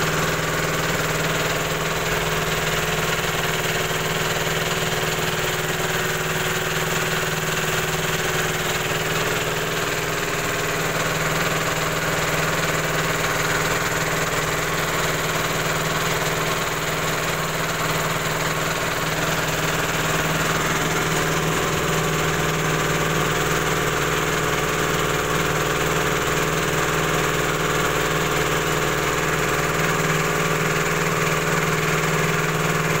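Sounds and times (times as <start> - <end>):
pellet mill machine hum: 0.0 - 33.0.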